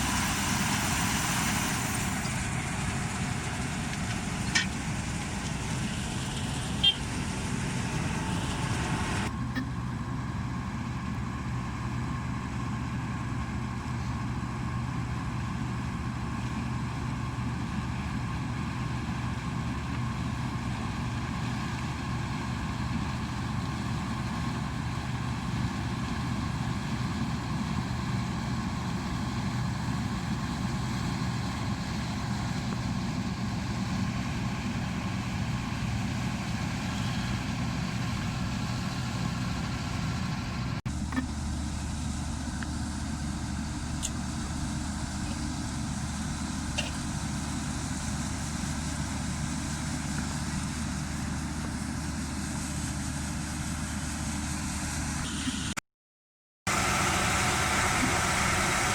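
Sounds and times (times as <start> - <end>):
combine harvester engine humming: 0.0 - 55.8, 56.7 - 58.9.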